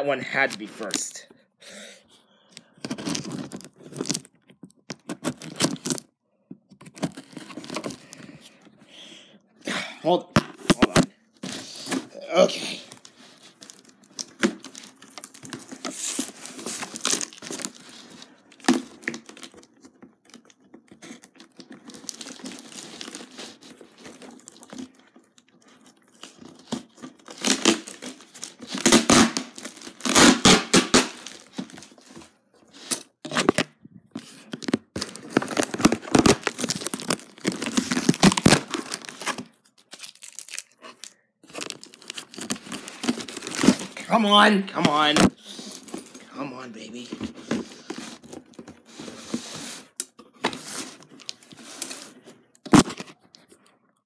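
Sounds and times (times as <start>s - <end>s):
packaging tearing and crinkling: 2.8s - 6.1s, 6.8s - 8.3s, 10.6s - 45.9s, 47.2s - 53.5s.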